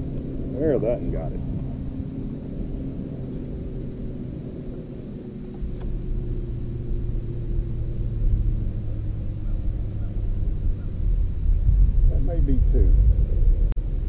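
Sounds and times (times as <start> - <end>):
motor rumble with hum: 0.0 - 14.0.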